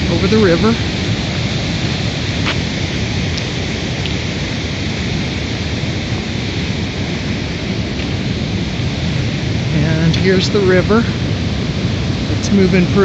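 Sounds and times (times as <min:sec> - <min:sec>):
river rapids roaring: 0:00.0 - 0:13.0.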